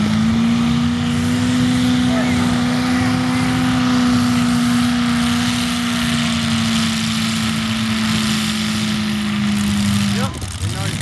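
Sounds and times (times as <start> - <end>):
noisy rush: 0.0 - 11.0
vehicle engine droning: 0.0 - 11.0.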